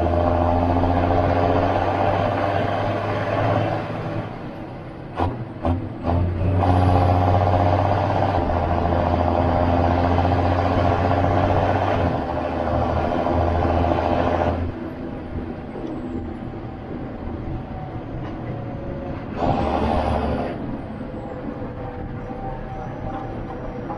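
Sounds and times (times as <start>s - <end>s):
tractor diesel engine under load: 0.0s - 23.9s.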